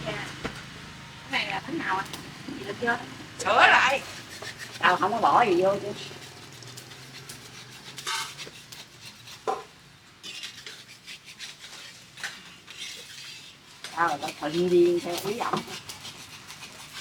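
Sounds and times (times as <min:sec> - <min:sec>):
utensils clinking and scraping pans: 0:01.9 - 0:17.0.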